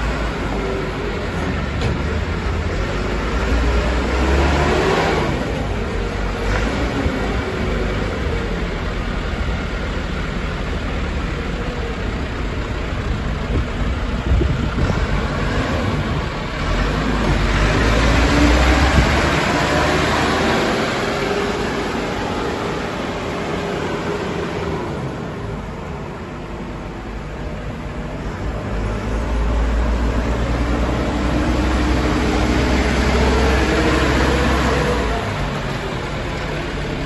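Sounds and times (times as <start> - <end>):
diesel engine driving past: 0.0 - 37.0.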